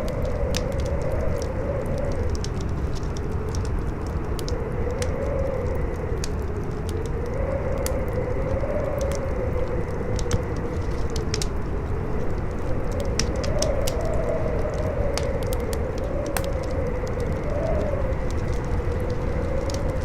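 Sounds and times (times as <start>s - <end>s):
campfire crackling: 0.0s - 20.0s
howling whistling wind: 0.0s - 20.0s.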